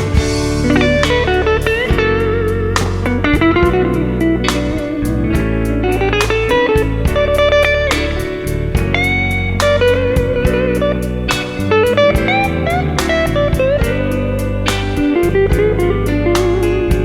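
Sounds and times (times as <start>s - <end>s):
bass: 0.0s - 17.0s
drums: 0.0s - 17.0s
electric guitar solo: 0.0s - 17.0s.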